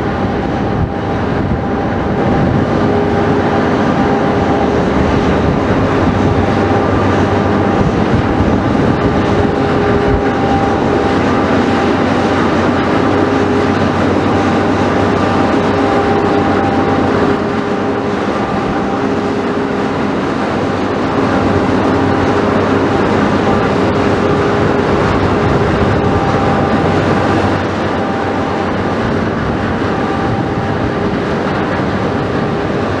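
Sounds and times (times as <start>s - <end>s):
ship diesel engine rumbling: 0.0s - 33.0s.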